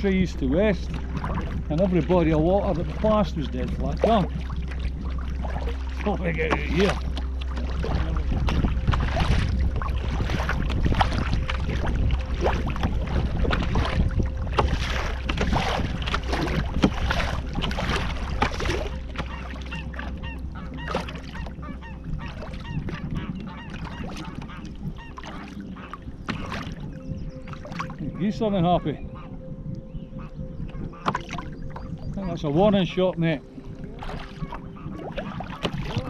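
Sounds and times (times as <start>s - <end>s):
water splashing around kayak: 0.0s - 36.0s
wind buffeting microphone: 0.0s - 36.0s.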